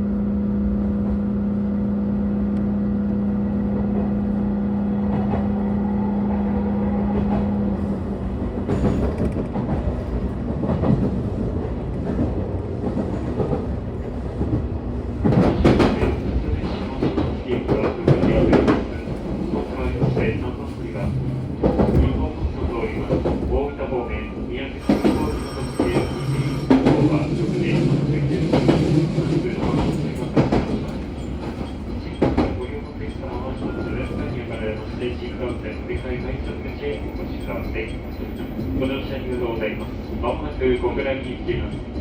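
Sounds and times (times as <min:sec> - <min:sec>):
train running on rails: 0:00.0 - 0:42.0.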